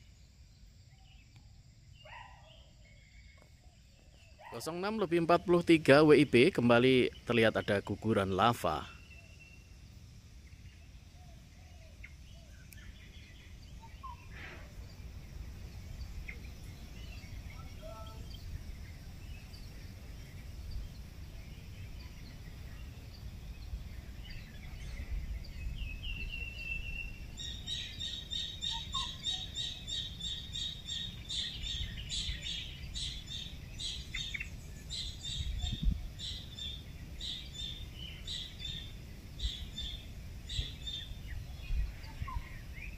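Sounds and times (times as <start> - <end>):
birds chirping: 0.0 - 42.9
low background noise: 0.0 - 42.9.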